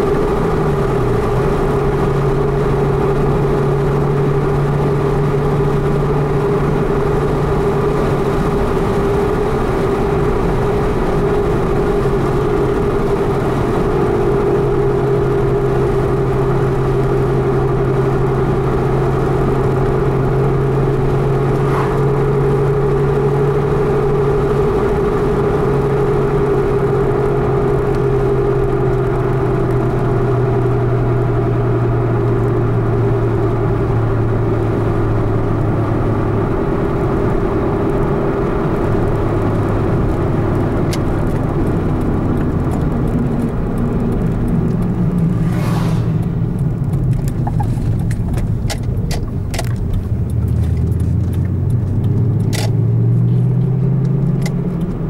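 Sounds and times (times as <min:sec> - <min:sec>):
car engine droning: 0:00.0 - 0:55.0
tyre and road noise: 0:00.0 - 0:55.0.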